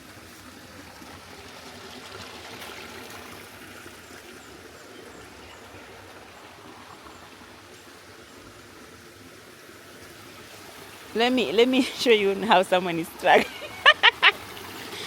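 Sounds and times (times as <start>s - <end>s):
stream babbling: 0.0s - 15.0s.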